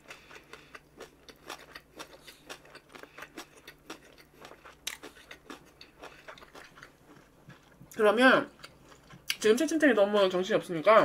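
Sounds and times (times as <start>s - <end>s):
person chewing food: 0.0s - 9.4s.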